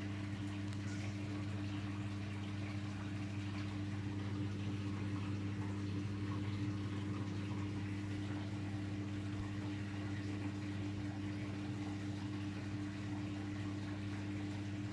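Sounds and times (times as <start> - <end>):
faint water noise: 0.0 - 14.9
washing machine electric hum: 0.0 - 14.9.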